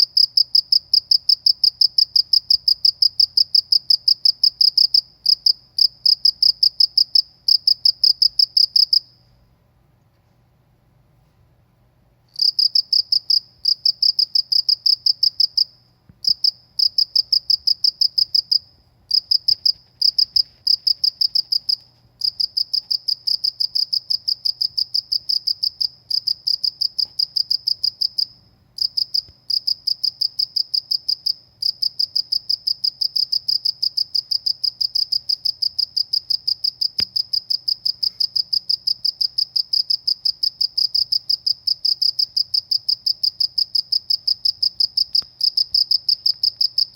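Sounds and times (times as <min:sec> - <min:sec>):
cricket chirping: 0:00.0 - 0:09.3, 0:12.3 - 0:46.9.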